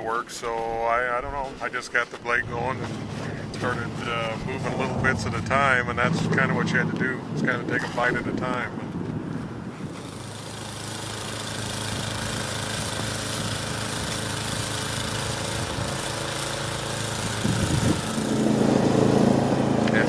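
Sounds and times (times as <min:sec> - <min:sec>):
snow-clearing machine engine running: 0:02.4 - 0:06.9, 0:07.5 - 0:20.0.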